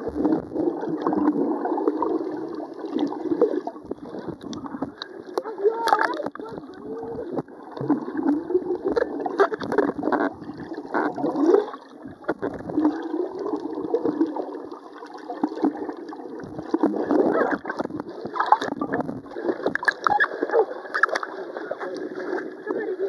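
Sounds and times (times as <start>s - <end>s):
underwater gurgling and bubbling: 0.0s - 23.0s.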